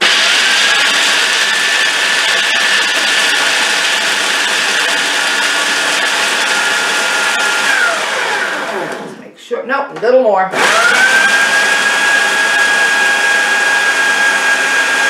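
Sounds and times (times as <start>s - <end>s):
food processor grinding nuts: 0.0s - 9.1s, 10.6s - 15.0s.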